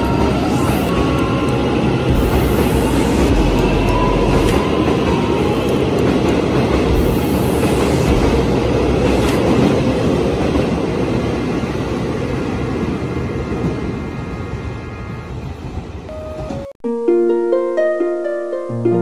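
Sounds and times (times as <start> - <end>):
train wheels rumbling: 0.0 - 16.7.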